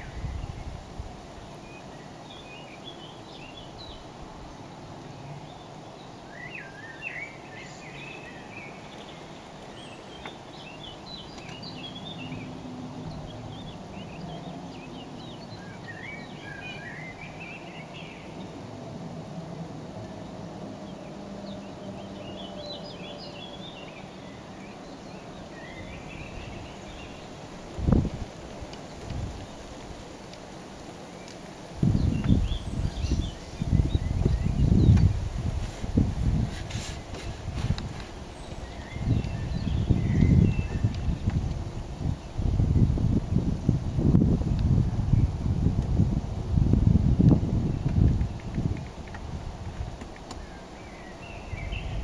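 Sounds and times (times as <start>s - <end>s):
songbirds warbling: 0.0s - 43.4s, 47.0s - 52.0s
outdoor background hiss: 0.0s - 52.0s.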